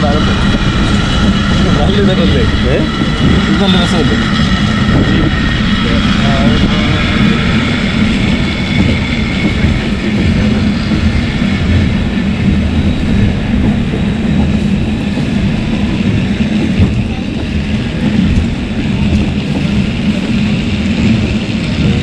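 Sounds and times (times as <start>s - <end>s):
funicular car rumbling on track: 0.0s - 22.0s.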